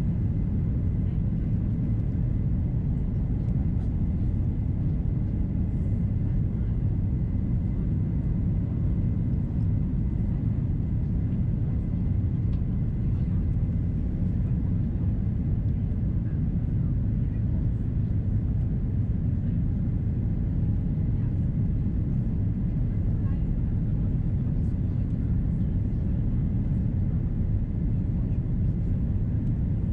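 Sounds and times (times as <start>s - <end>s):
airplane cabin engine rumble: 0.0s - 29.9s.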